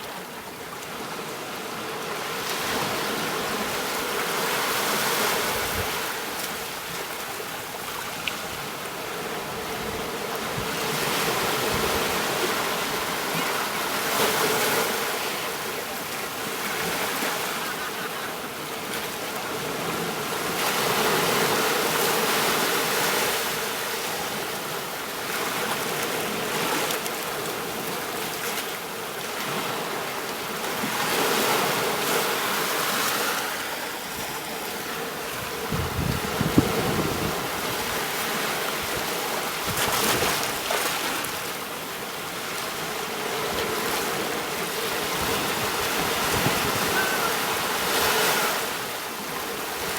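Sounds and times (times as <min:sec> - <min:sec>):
surf washing onto a beach: 0:00.0 - 0:49.9.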